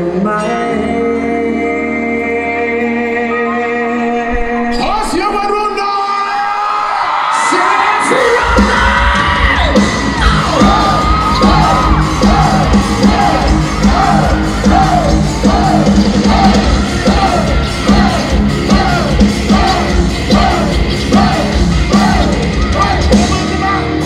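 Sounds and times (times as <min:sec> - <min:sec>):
live pop-rock band music: 0:00.0 - 0:06.1, 0:07.1 - 0:24.0
rhythmic shouted vocals: 0:02.7 - 0:24.0.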